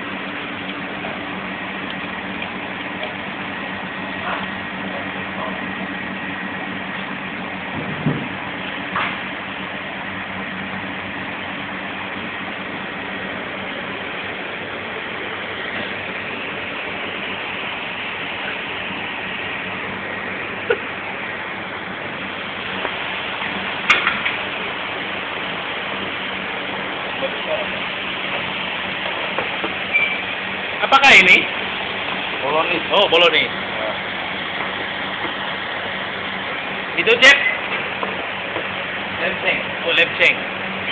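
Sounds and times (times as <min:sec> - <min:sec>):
kitchen machinery humming: 0:00.0 - 0:40.9.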